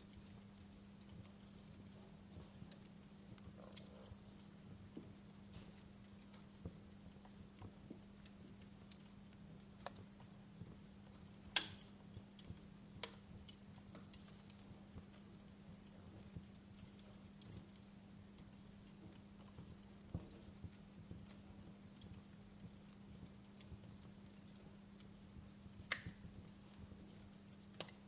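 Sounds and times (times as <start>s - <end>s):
faint low hum: 0.0s - 28.0s
wood fire crackling: 0.0s - 28.0s.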